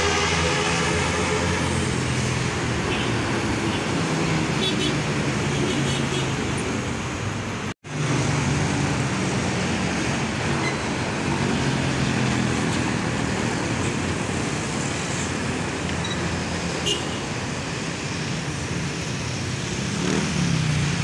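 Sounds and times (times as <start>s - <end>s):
street traffic passing: 0.0s - 21.0s.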